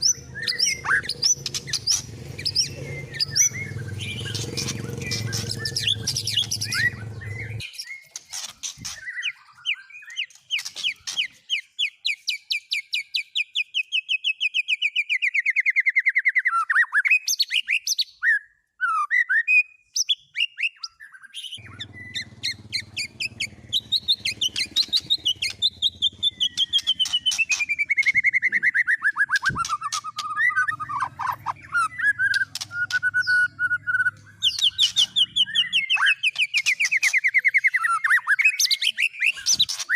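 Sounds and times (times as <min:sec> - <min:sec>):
songbird trills: 0:00.0 - 0:18.4, 0:19.1 - 0:39.9.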